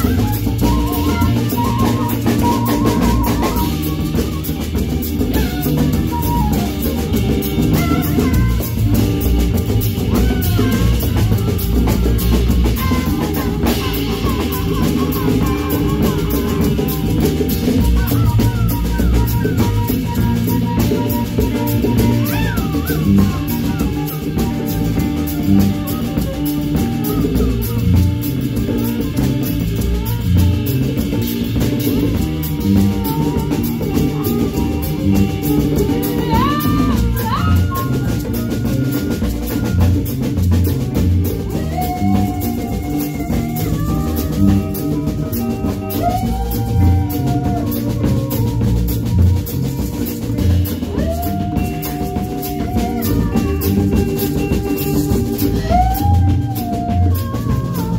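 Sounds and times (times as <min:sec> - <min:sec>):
bass guitar: 0:00.0 - 0:57.9
drum kit beat: 0:00.0 - 0:57.9
guitar: 0:00.0 - 0:57.9
sliding melody line: 0:00.0 - 0:57.9.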